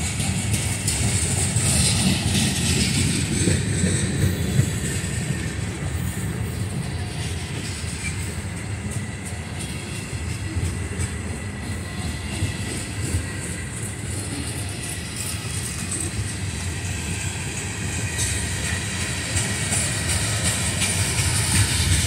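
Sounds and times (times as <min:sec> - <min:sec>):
faint clickety-clack: 0:00.0 - 0:22.0
train wheels rumbling on rails: 0:00.0 - 0:22.0.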